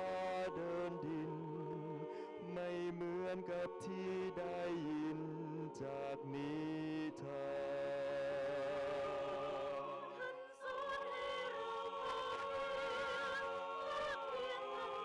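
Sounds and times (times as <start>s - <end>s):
choir singing in harmony: 0.0s - 15.0s.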